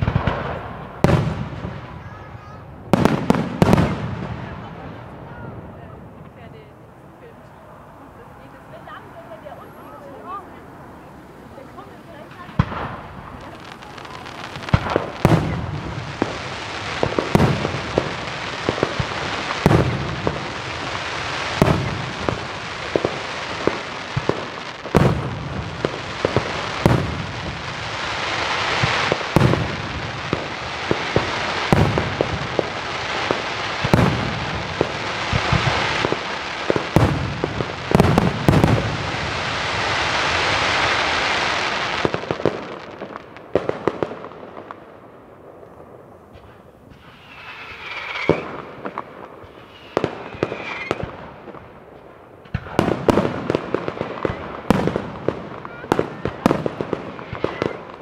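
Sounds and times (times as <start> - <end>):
firework bangs: 0.0 - 58.0
firework crackling: 0.0 - 58.0.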